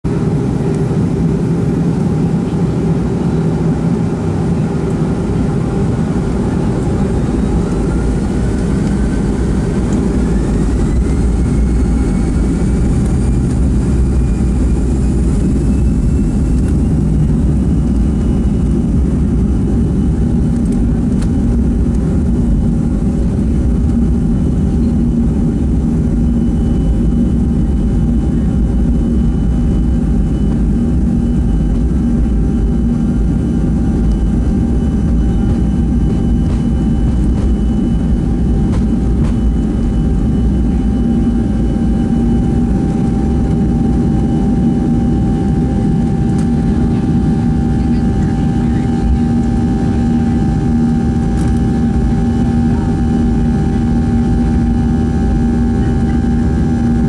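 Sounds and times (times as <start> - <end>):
jet engines spooling up: 3.8 - 57.0.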